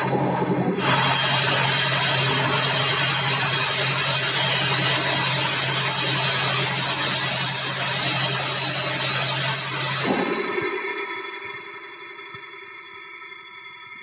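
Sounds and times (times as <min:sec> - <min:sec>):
band saw machinery running: 0:00.0 - 0:12.4.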